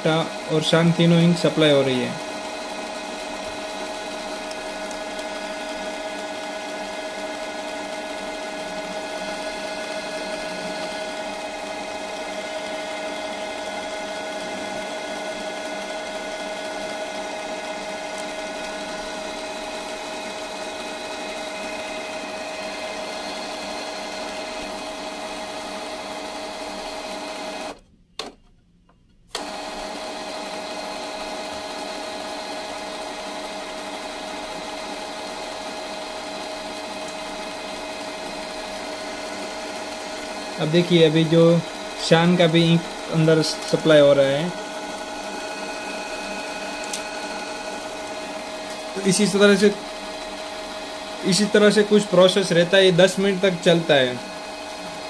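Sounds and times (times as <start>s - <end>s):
printer motor hum with whining: 0.0s - 28.4s, 29.3s - 55.0s.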